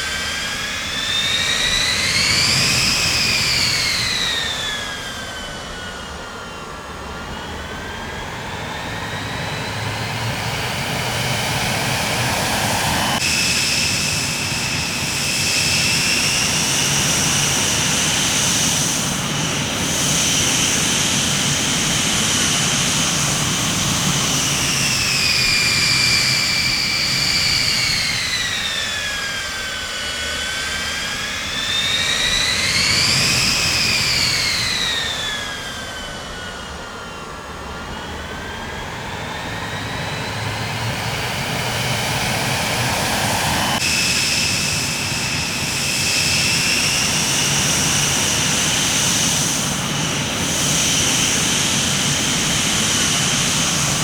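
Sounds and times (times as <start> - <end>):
jet engine turbine whine: 0.0 - 54.0.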